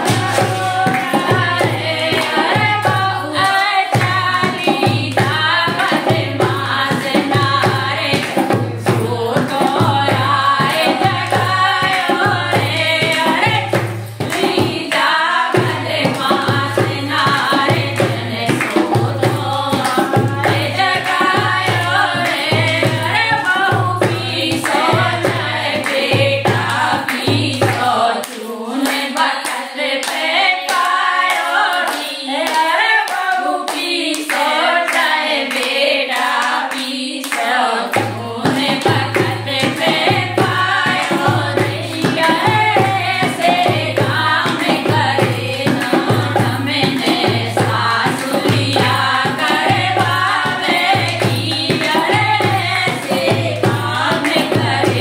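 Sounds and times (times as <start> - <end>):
hand drum beat: 0.0 - 28.2, 37.9 - 55.0
hand-clapping: 0.0 - 55.0
women singing folk song: 0.0 - 55.0.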